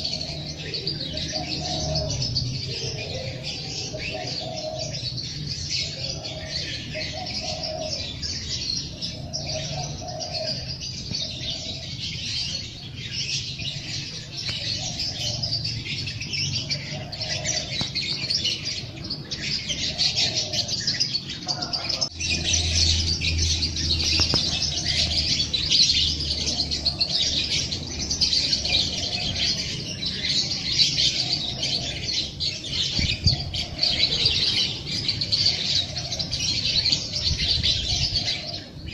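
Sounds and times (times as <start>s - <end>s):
dove cooing: 0.0s - 38.9s
songbirds chirping: 0.0s - 38.9s.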